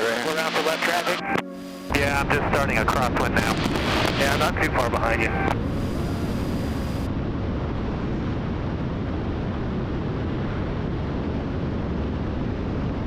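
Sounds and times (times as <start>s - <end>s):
light airplane engine and propeller: 0.0s - 13.0s.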